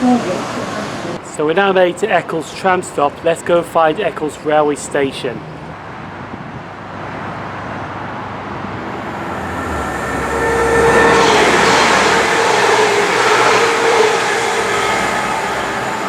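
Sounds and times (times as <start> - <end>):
tram motor tones: 0.0 - 16.0
tram rail noise: 0.0 - 16.0.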